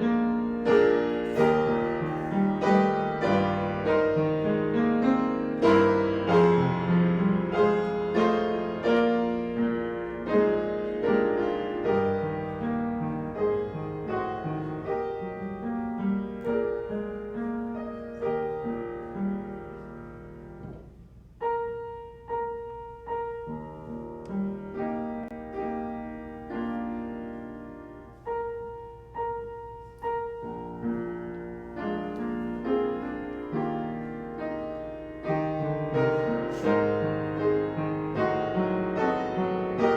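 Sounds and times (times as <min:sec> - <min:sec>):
slow solo piano piece: 0:00.0 - 0:39.9.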